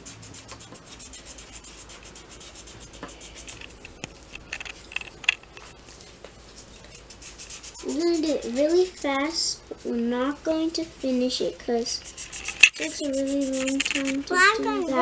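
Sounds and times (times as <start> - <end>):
markers scratching on paper: 0.0 - 15.0.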